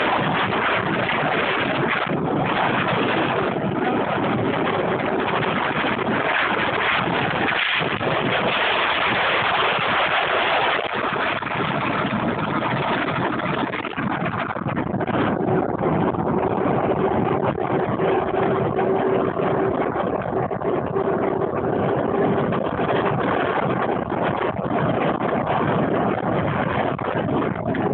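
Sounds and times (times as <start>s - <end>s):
road noise: 0.0s - 27.9s
steady hum: 0.0s - 27.9s
wind over microphone: 0.0s - 27.9s.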